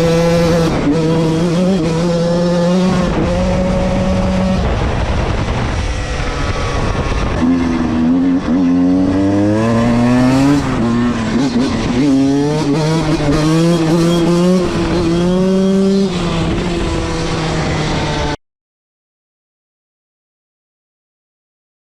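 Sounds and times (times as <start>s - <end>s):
two-stroke motorcycle engine revving: 0.0s - 18.4s.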